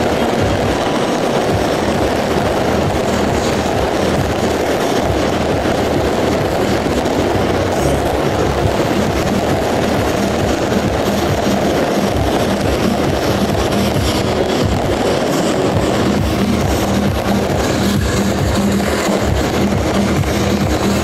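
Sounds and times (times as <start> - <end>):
fireworks rockets roaring: 0.0 - 21.0.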